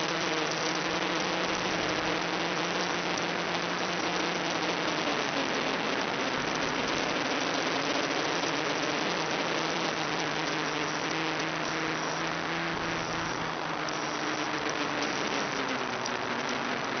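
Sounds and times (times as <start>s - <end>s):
static hiss: 0.0s - 17.0s.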